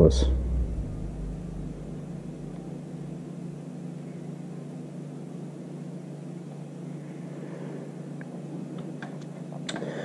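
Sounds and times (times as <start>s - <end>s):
low room hum and hiss: 0.0s - 10.0s.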